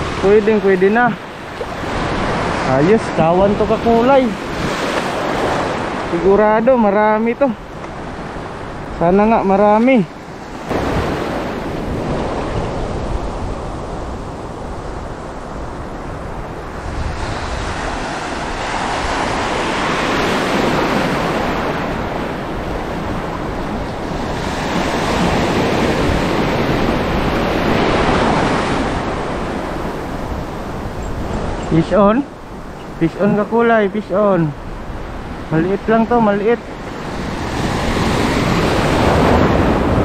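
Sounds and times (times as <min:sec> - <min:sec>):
heavy sea surf: 0:00.0 - 0:40.0
wind buffeting microphone: 0:00.0 - 0:40.0.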